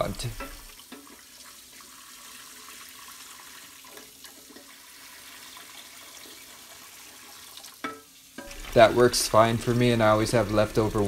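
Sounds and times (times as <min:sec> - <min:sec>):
water pouring and splashing: 0:00.0 - 0:11.0.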